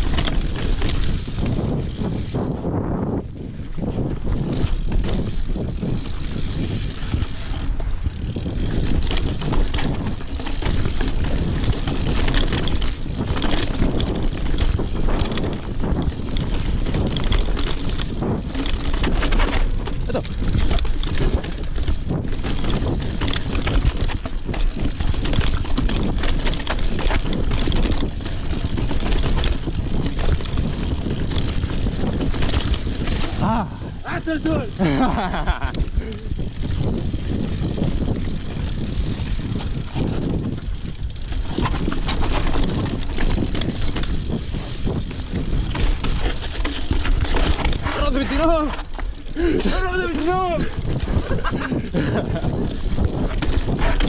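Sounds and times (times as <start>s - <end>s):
bike frame rattling: 0.0s - 54.0s
bike tyres rumbling on stone: 0.0s - 54.0s.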